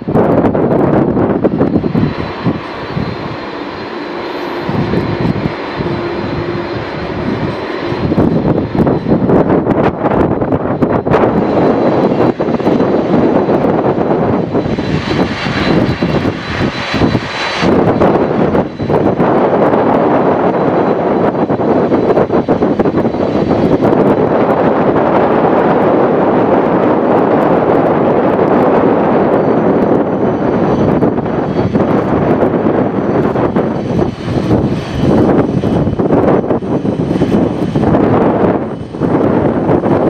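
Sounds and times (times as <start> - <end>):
jet engines roaring: 0.0 - 40.0
wind buffeting microphone: 0.0 - 40.0.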